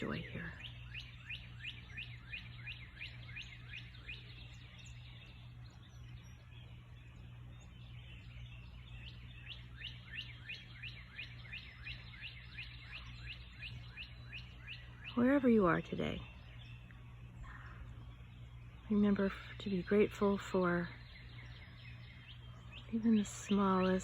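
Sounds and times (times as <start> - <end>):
birds chirping: 0.0 - 24.0
low steady hum: 0.0 - 24.0.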